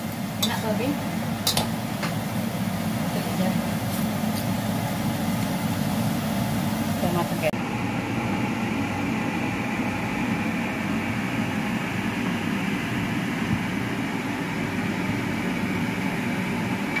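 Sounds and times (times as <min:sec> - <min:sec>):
fan droning: 0:00.0 - 0:17.0.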